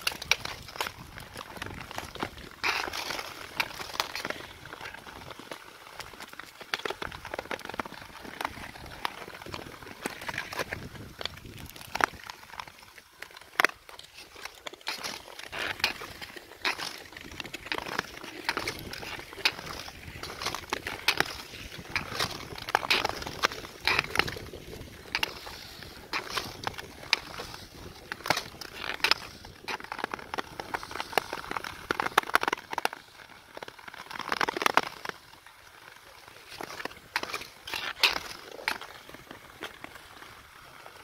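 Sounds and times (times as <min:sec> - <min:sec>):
ice cracking: 0:00.0 - 0:41.0
skate blades scraping on ice: 0:00.0 - 0:41.0.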